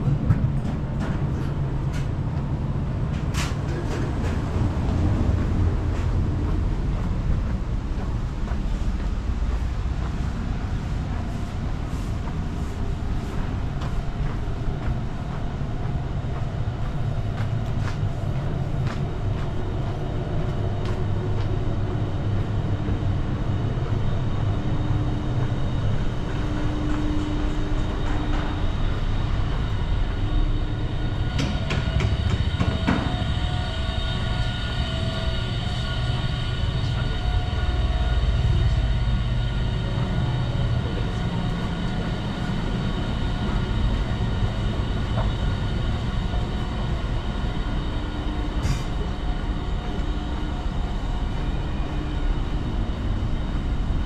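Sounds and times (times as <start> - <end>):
train rumbling past: 0.0 - 54.0
humming tone: 9.8 - 54.0.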